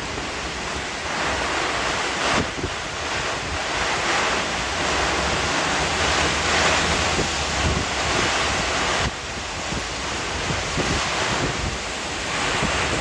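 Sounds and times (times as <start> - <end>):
strong wind gusts buffeting microphone: 0.0 - 13.0.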